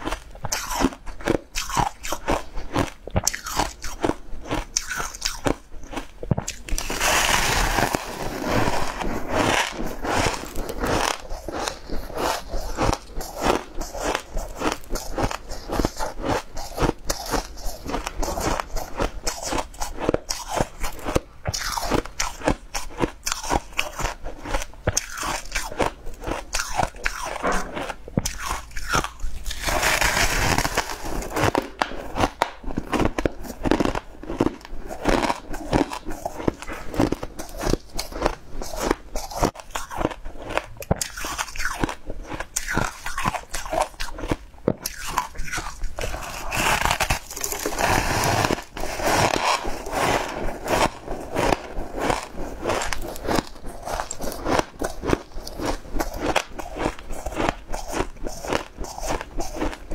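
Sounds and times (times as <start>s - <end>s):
crunchy biting and chewing: 0.0s - 59.9s.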